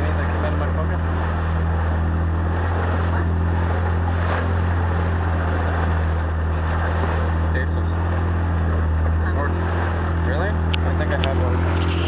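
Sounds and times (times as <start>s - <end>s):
motorboat engine droning: 0.0s - 12.0s
water rushing along hull: 0.0s - 12.0s.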